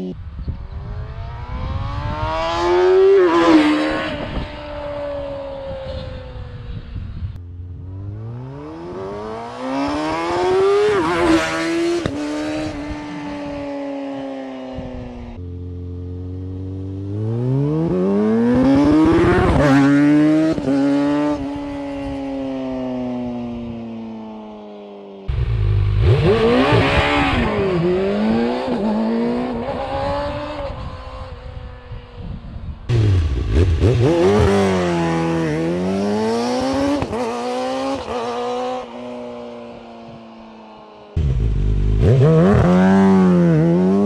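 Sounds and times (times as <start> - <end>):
motorcycle engine revving: 0.0 - 5.8, 7.5 - 23.4, 25.3 - 31.6, 32.9 - 40.2, 41.1 - 44.0.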